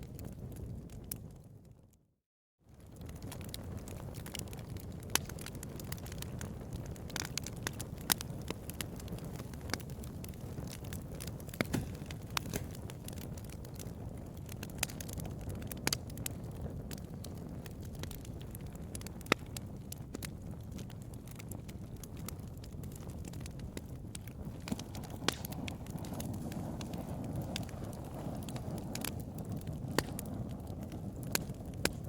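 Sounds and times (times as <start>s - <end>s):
low fire rumble: 0.0s - 2.0s, 2.7s - 32.0s
bonfire crackling and popping: 0.0s - 2.1s, 2.7s - 32.0s.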